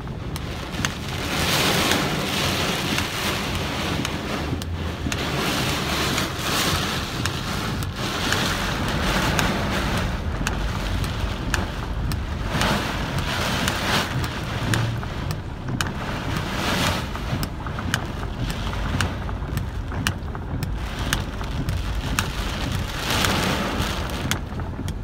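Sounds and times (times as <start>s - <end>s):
car road noise: 0.0s - 25.0s
heavy rain on car roof: 0.0s - 25.0s.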